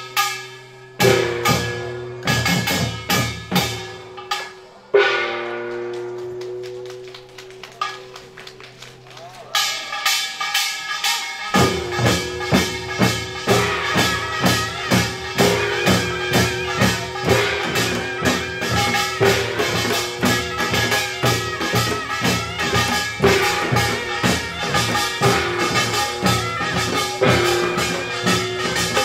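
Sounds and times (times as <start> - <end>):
drums and gongs playing fast beat: 0.0 - 29.0
shawm holding long notes: 0.0 - 29.0.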